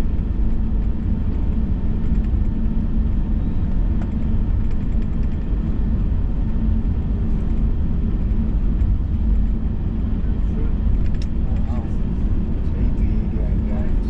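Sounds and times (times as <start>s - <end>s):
airplane cabin rumble: 0.0s - 14.0s
faint steady hum: 0.0s - 14.0s.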